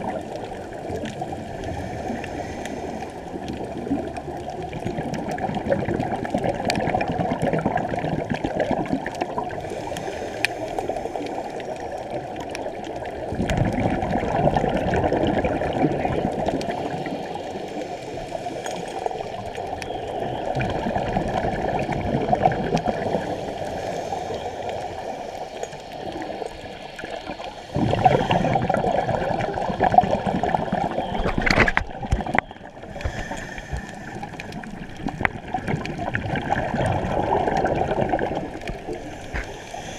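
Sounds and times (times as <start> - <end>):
scuba exhalation bubbles: 0.0 - 10.1, 11.0 - 25.3, 26.0 - 39.9
underwater rushing and bubbling: 0.0 - 39.9.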